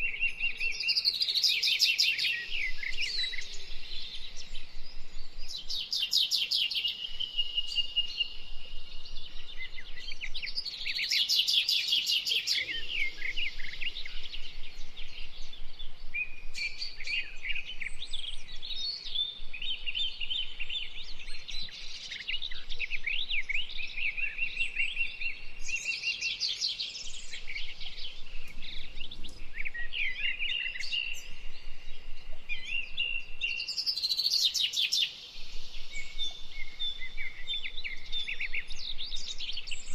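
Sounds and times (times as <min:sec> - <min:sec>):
songbird singing trills: 0:00.0 - 0:39.9.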